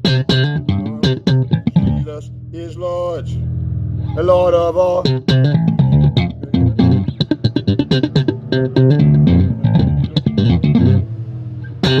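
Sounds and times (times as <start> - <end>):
bass guitar plucked notes: 0.0 - 12.0.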